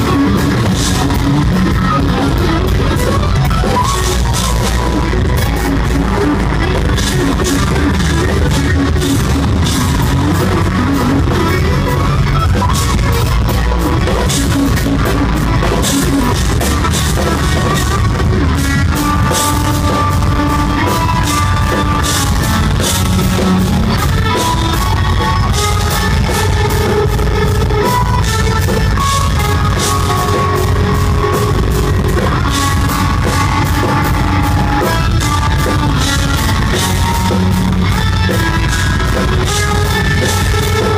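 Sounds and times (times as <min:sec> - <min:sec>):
drum kit playing: 0:00.0 - 0:40.9
electric guitars playing riffs: 0:00.0 - 0:40.9.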